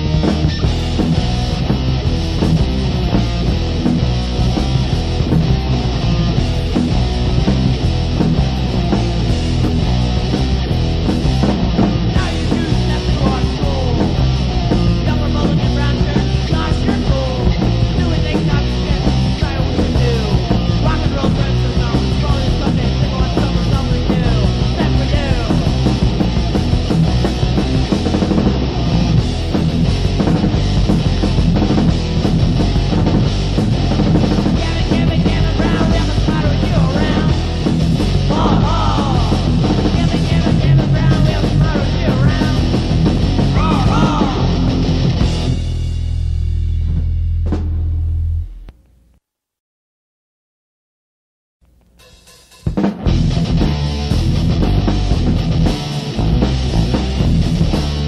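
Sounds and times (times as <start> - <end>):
punk band playing: 0.0 - 48.3, 52.0 - 58.0.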